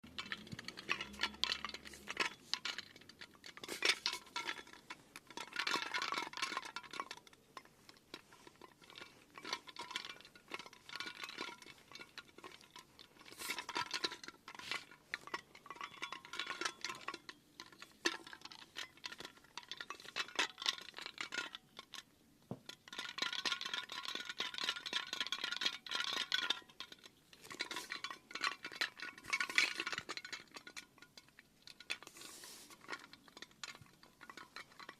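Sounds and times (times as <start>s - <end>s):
small hard objects clinking: 0.0s - 34.9s.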